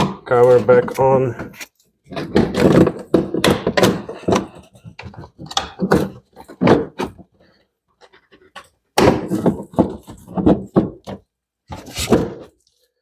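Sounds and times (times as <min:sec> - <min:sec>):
plastic cover knocks and scrapes: 0:00.0 - 0:07.4, 0:08.0 - 0:12.7.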